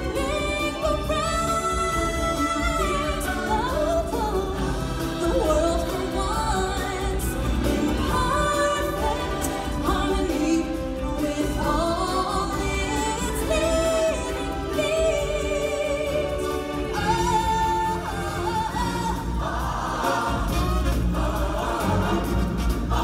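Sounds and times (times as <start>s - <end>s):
instrumental accompaniment: 0.0s - 23.0s
singers and chorus: 0.0s - 23.0s.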